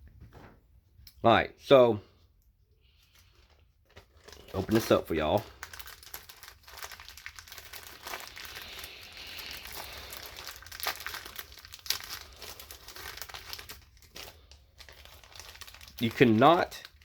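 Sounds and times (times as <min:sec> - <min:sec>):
plastic bag crinkling: 0:02.9 - 0:17.0.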